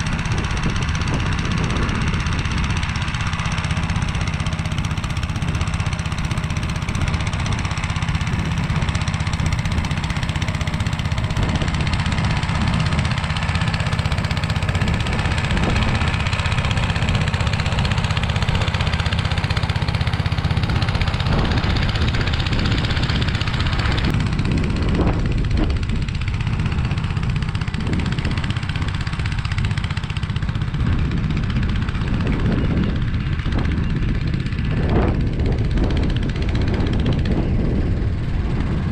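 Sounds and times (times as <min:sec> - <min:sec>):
tiller churning soil: 0:00.0 - 0:38.9
tractor engine running: 0:00.0 - 0:38.9.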